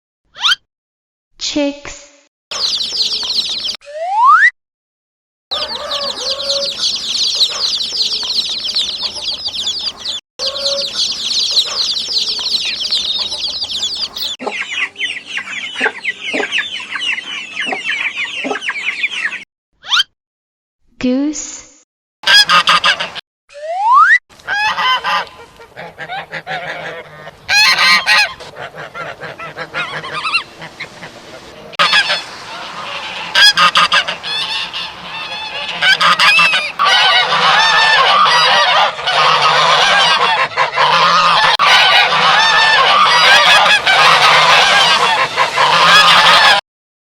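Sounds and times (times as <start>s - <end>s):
geese honking: 2.5s - 3.8s, 5.5s - 19.4s, 22.3s - 23.2s, 24.5s - 46.6s.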